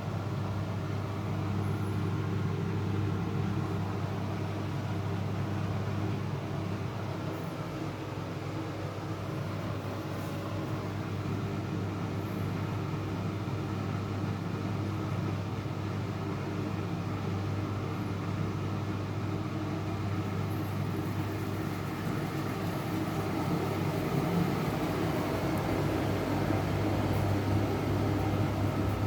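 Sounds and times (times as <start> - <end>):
washing machine running: 0.0 - 29.0.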